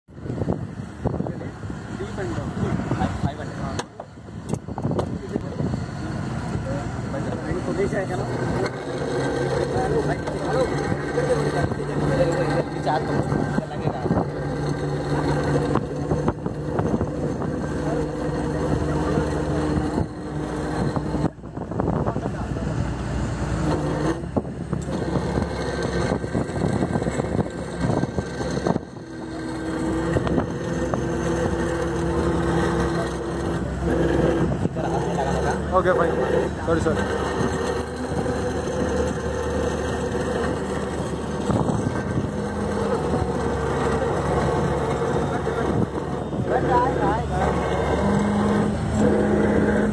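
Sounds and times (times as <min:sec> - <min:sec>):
motorboat engine hum: 0:00.1 - 0:49.9
wake churning water: 0:05.6 - 0:49.9.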